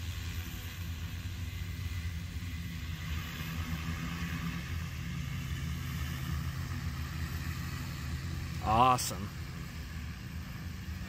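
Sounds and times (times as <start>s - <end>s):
drone rotors humming: 0.0s - 11.0s.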